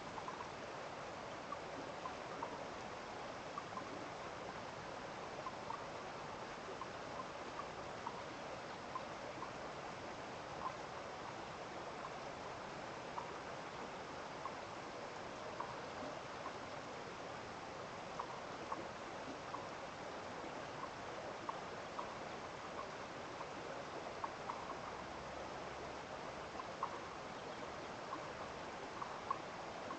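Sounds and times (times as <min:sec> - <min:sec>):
stream water flowing: 0:00.0 - 0:29.9.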